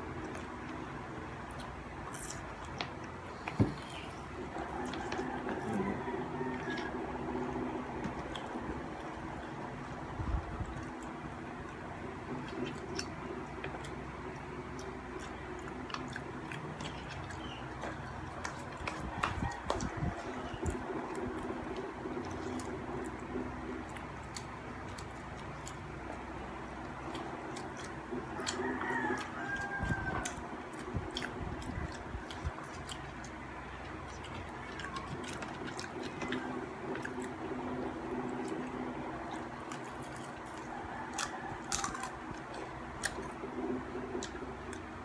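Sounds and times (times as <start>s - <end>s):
steady low hum: 0.0s - 45.0s
chewing and mouth clicks: 1.4s - 7.0s, 8.0s - 45.0s.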